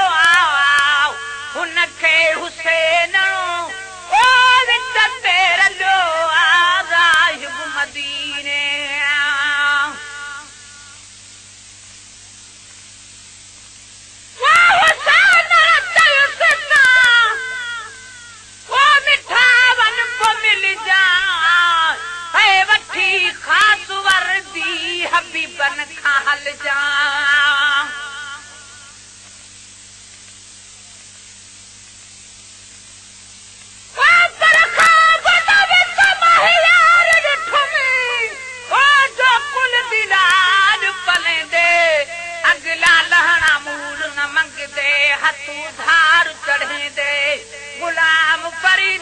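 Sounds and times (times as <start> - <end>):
man singing devotional song: 0.0 - 11.0, 14.4 - 29.0, 34.0 - 49.0
faint steady hiss: 0.0 - 49.0.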